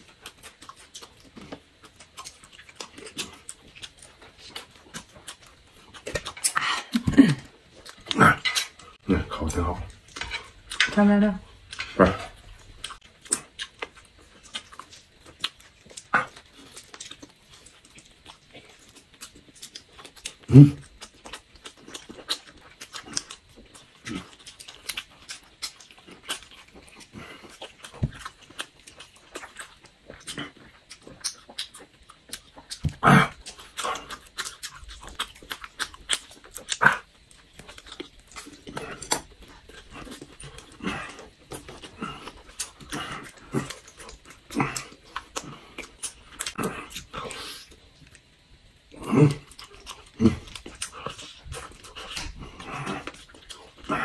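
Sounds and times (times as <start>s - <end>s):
wet chewing and lip smacks: 0.0s - 11.0s, 11.6s - 48.6s, 49.4s - 54.0s.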